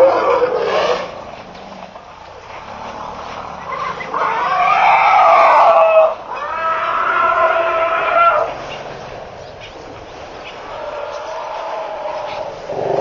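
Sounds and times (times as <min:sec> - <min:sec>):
elephants calling: 0:00.0 - 0:13.0.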